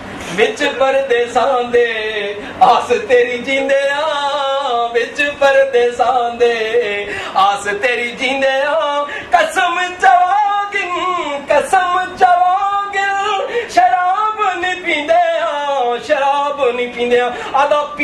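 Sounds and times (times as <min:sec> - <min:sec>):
man singing: 0:00.2 - 0:18.0.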